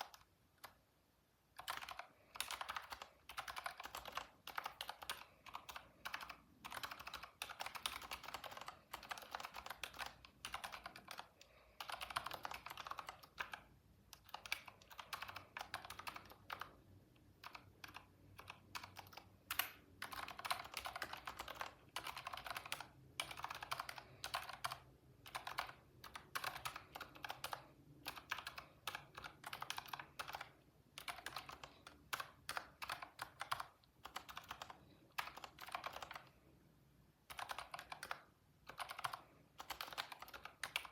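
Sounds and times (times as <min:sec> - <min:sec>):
computer keyboard typing: 0:00.0 - 0:00.9, 0:01.5 - 0:36.5, 0:37.2 - 0:40.9.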